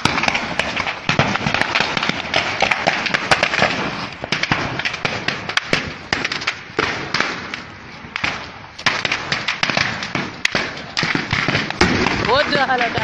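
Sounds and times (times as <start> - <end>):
gunshots: 0.0 - 13.0.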